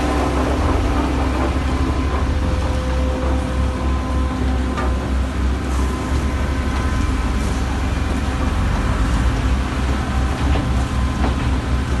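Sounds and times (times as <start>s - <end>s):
concrete pump pulsing rumble: 0.0s - 12.0s.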